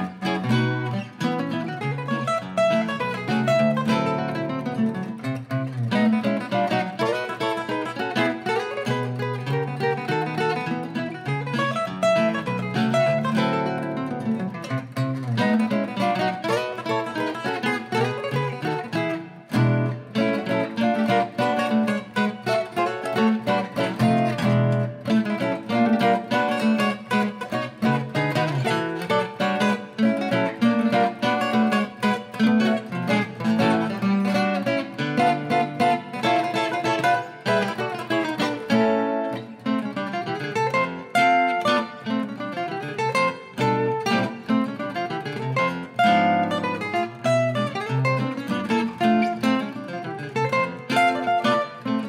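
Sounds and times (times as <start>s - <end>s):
jazz guitar duet: 0.0s - 52.0s.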